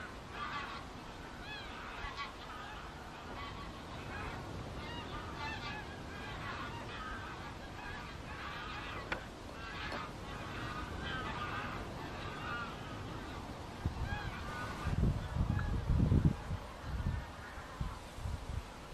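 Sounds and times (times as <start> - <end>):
geese honking: 0.0 - 18.2.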